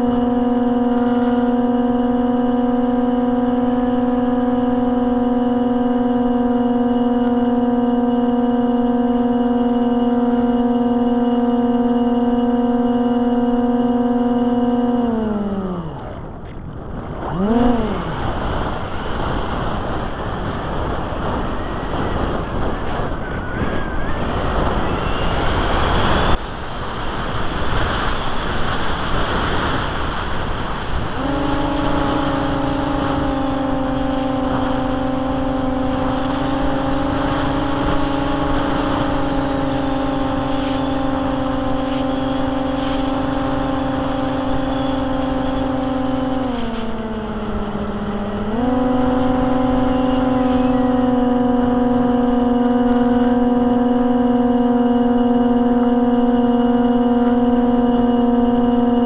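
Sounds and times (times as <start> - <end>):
model plane motor revving: 0.0 - 59.0.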